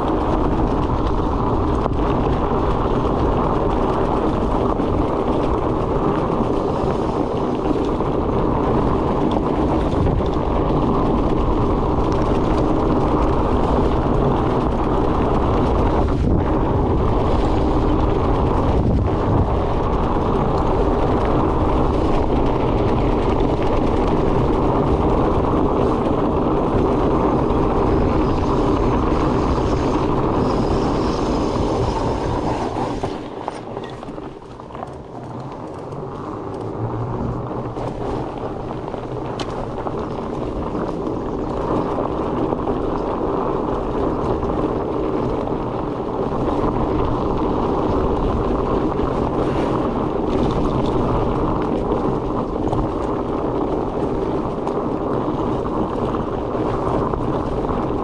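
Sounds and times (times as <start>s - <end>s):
bike tyres rumbling on dirt: 0.0s - 58.0s
wind rushing on microphone: 0.0s - 58.0s.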